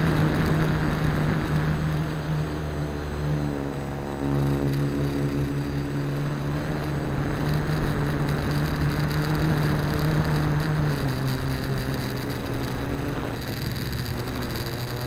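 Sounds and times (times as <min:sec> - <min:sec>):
quadcopter propellers whirring: 0:00.0 - 0:15.0
wind rumbling on microphone: 0:00.0 - 0:15.0.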